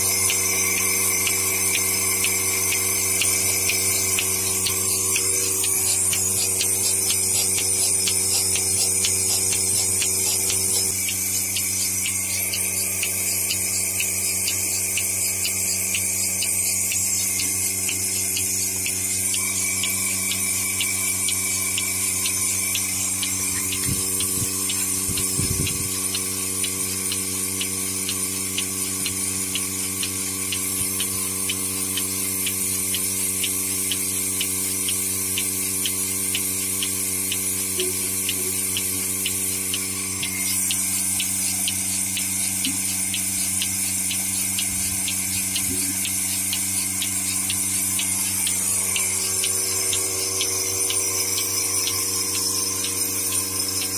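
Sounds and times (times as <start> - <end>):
pulsator ticking: 0.0 - 53.9
vacuum pump motor hum: 0.0 - 53.9.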